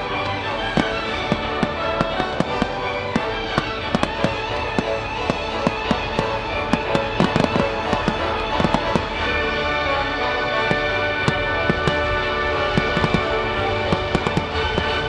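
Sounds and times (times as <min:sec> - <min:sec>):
fireworks bursting: 0:00.0 - 0:15.0
music playing: 0:00.0 - 0:15.0.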